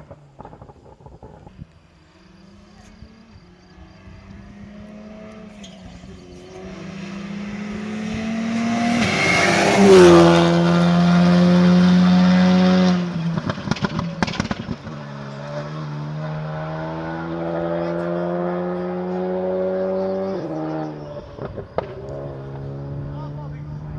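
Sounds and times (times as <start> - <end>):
exhaust pops and crackles: 0.0 - 3.0, 4.1 - 23.9
rally car engine at high revs: 0.0 - 23.9.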